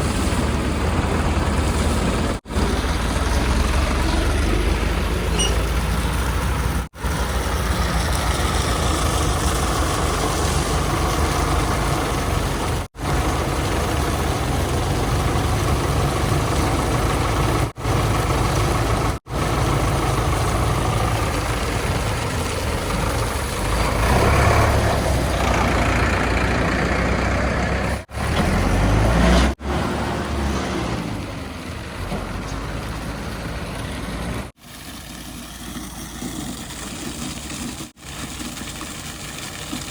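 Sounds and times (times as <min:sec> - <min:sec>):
heavy diesel engine running: 0:00.0 - 0:34.6.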